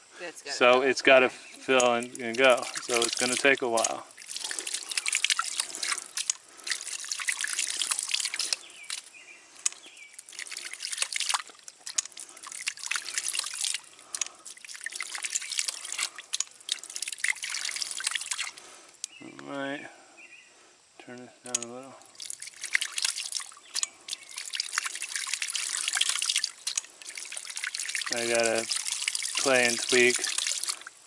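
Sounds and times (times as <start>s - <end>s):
water spurting and splashing: 1.1s - 19.0s, 21.5s - 31.0s
pump valve sharp clicks: 1.7s - 18.4s, 21.5s - 30.7s.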